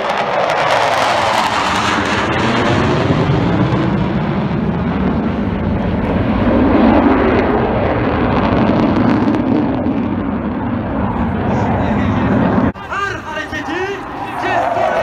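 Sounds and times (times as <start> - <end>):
fighter jet engine rumble: 0.0 - 15.0.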